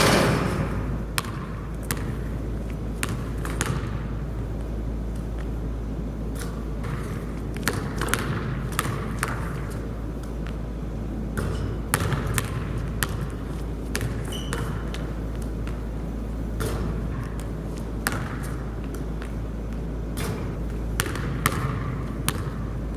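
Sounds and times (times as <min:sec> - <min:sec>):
basketball bouncing: 0:00.0 - 0:05.6, 0:06.4 - 0:10.6, 0:11.3 - 0:15.9, 0:16.6 - 0:19.4, 0:20.1 - 0:22.9
steady low hum: 0:00.0 - 0:22.9.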